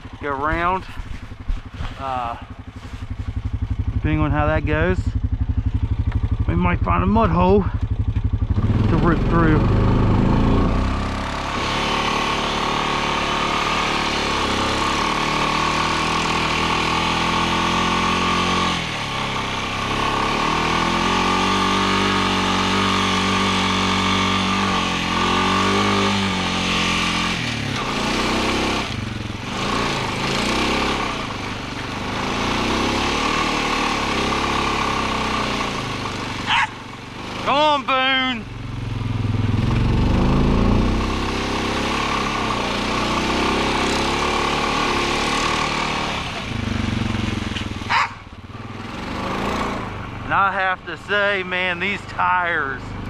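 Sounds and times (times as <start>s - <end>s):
quad bike engine revving: 0.0s - 53.0s.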